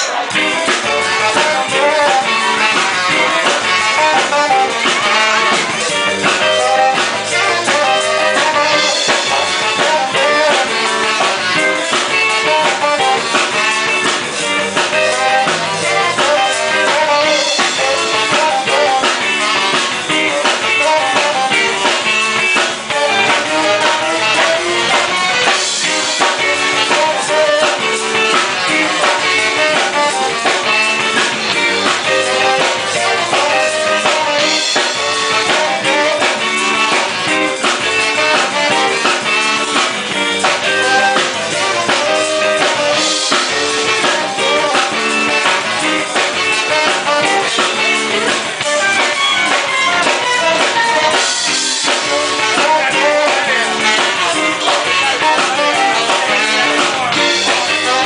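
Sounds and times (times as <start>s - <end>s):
drum kit: 0.0s - 58.0s
electric guitar: 0.0s - 58.0s
tenor saxophone melody: 0.0s - 58.0s.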